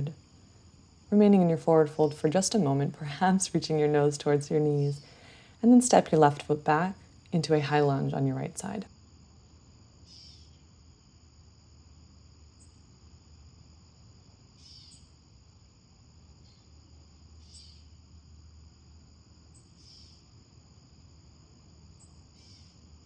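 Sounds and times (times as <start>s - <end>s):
crickets chirring: 0.0s - 23.0s
loud cricket chirps: 0.2s - 23.0s.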